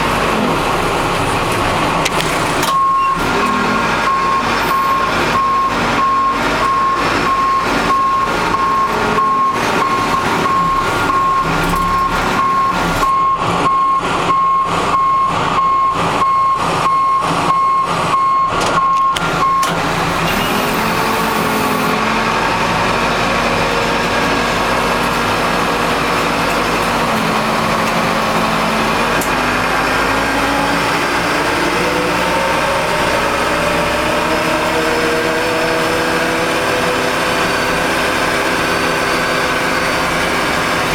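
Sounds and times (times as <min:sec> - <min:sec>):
backhoe engine running: 0:00.0 - 0:40.9
reversing alarm beeping: 0:02.6 - 0:40.0.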